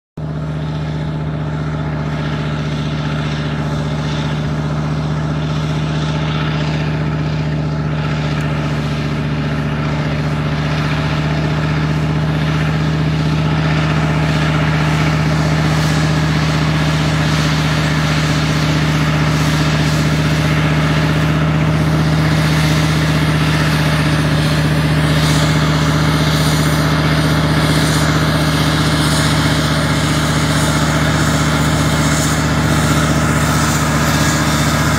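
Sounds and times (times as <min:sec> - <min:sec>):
tractor engine droning: 0:00.2 - 0:34.9.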